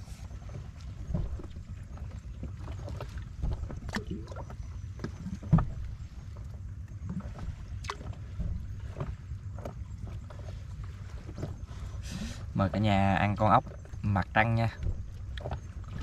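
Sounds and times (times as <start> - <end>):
sea rumble: 0.0 - 16.0
wind: 0.0 - 16.0.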